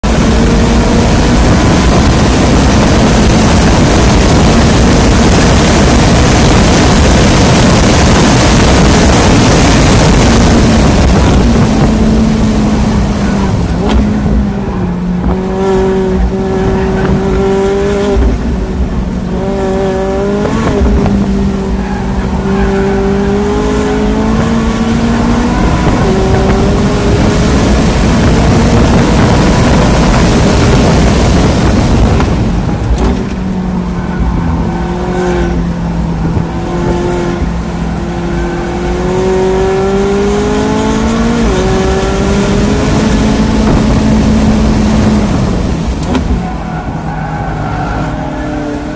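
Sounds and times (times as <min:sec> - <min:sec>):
sports car engine revving: 0:00.0 - 0:48.9
wind noise rushing: 0:00.0 - 0:48.9.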